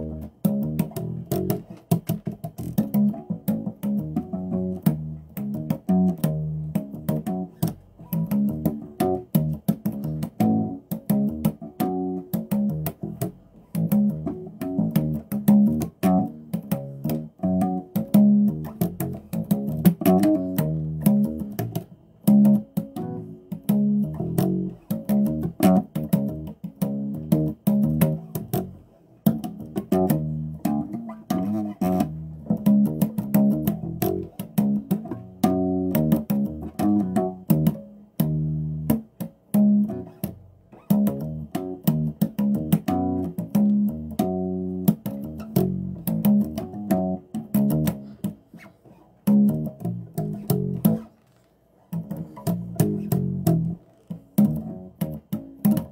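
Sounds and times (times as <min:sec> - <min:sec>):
electric bass guitar plucked notes: 0:00.0 - 0:51.2, 0:51.9 - 0:55.9.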